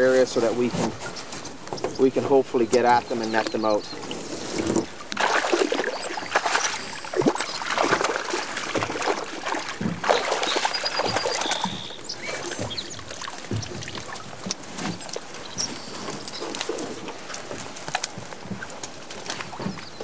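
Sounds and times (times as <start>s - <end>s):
water splashing and dripping: 0.6s - 20.0s.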